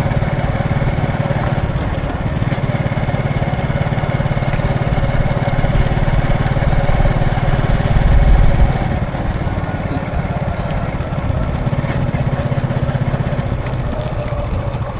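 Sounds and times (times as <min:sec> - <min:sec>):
road traffic: 0:00.0 - 0:14.9
vehicle engine chugging: 0:00.0 - 0:14.9.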